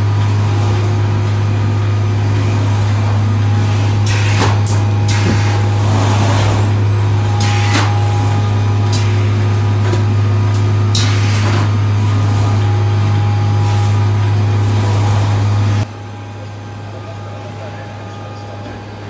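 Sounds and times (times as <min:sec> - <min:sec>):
machine low hum: 0:00.0 - 0:19.0.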